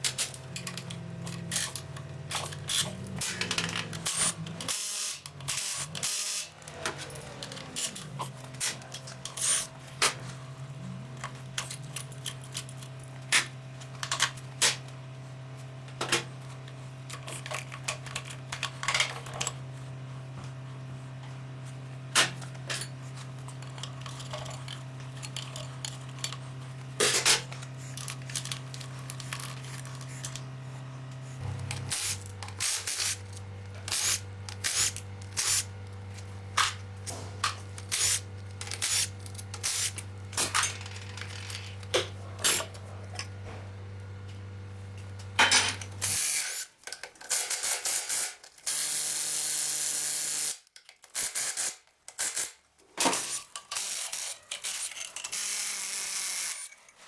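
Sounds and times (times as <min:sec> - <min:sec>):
steady low hum: 0:00.0 - 0:46.2.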